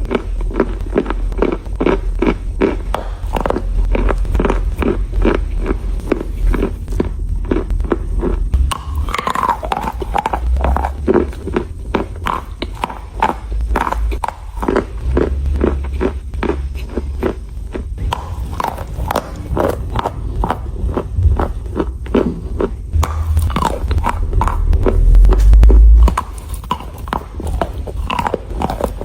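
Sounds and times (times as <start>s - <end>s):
low rumble: 0.0s - 12.4s, 13.4s - 18.2s, 19.4s - 26.8s
chalk crunching while chewed: 0.0s - 29.0s.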